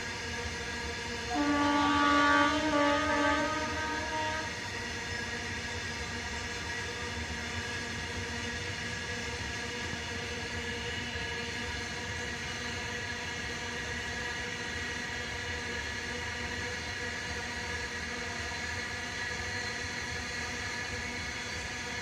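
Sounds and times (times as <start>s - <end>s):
freight train rumbling on track: 0.0s - 22.0s.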